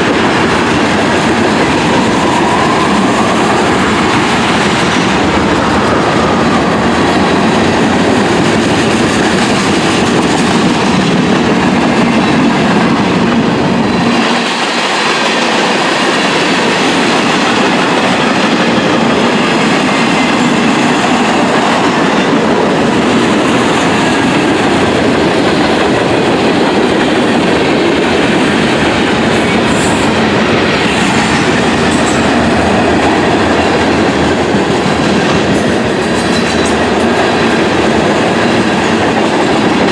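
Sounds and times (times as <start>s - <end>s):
freight train cars rumbling past: 0.0s - 39.9s
wheels clickety-clack over rail joints: 0.0s - 39.9s.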